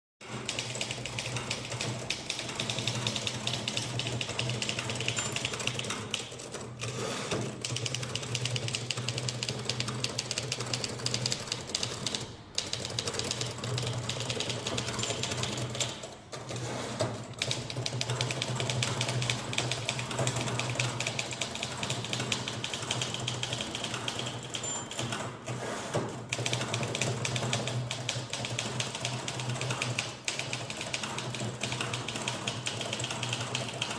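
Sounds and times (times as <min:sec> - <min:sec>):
fast typewriter typing: 0:00.2 - 0:33.9.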